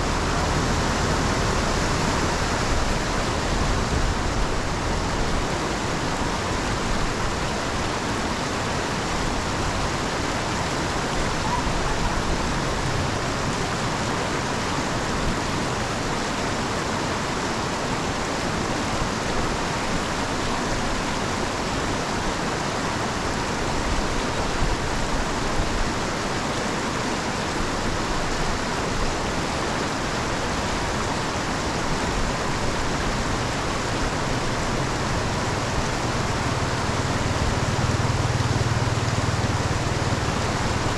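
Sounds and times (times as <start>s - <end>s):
rain falling: 0.0s - 40.9s
water pouring into storm drain: 0.0s - 40.9s.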